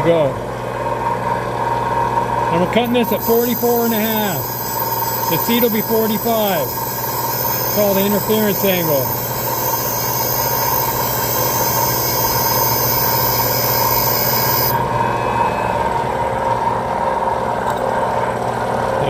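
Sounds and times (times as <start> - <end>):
valve grinding machine whine: 0.0 - 17.3.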